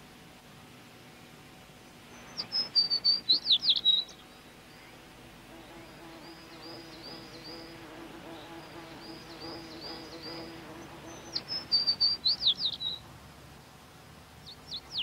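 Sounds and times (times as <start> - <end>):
songbird singing: 1.1 - 13.1, 14.4 - 15.0.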